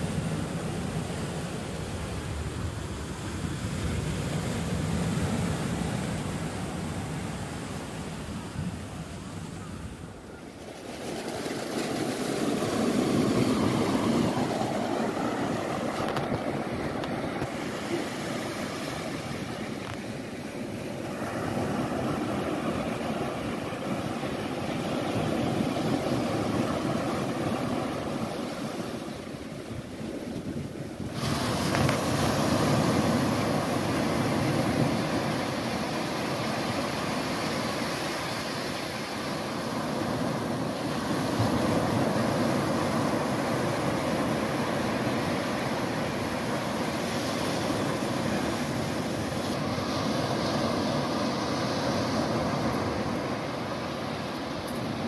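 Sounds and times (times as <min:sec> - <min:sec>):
ocean waves breaking on beach: 0:00.0 - 0:55.0.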